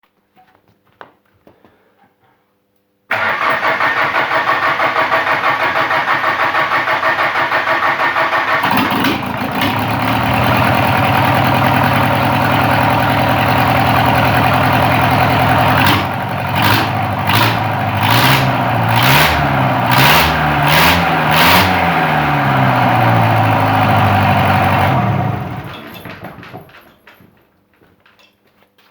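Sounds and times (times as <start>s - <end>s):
diesel engine running and revving: 3.1s - 26.6s
starter cranking diesel engine: 3.1s - 26.7s.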